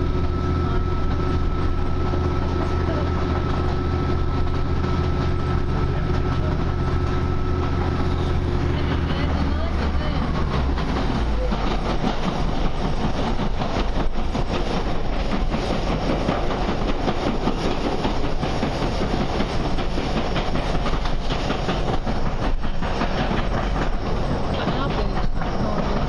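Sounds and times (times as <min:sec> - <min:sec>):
train wheels on rail: 0:00.0 - 0:26.0.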